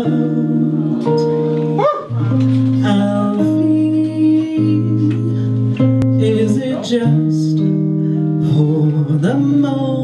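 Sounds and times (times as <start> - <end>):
piano chords: 0.0 - 9.1
jazz guitar chords: 0.0 - 10.0
person singing a ballad: 0.0 - 10.0.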